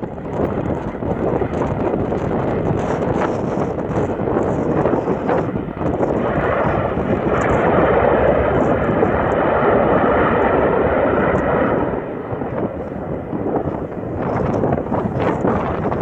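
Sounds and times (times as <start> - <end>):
turboprop aircraft engine rush: 0.0 - 16.0.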